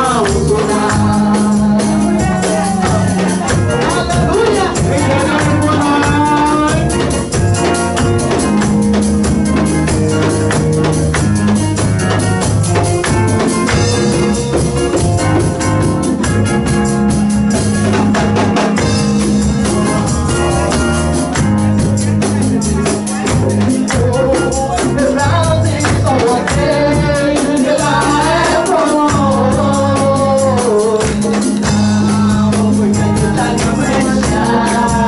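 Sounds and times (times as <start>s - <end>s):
drum kit steady beat: 0.0s - 35.0s
electronic organ chords: 0.0s - 35.0s.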